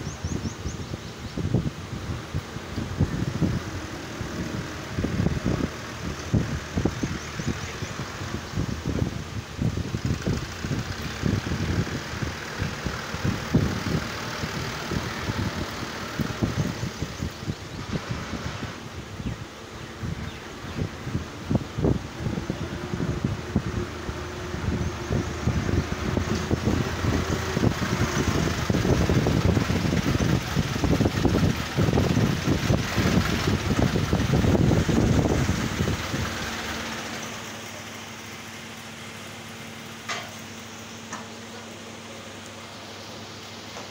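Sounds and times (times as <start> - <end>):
tractor diesel engine chugging: 1.4 - 19.1, 19.9 - 43.9.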